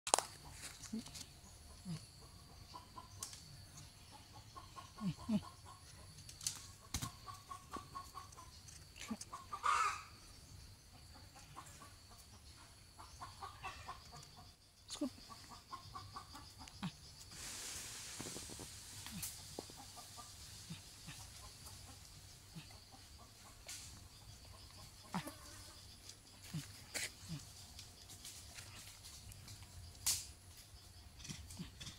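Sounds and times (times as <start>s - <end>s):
chickens clucking: 0.1s - 17.5s, 18.2s - 29.5s.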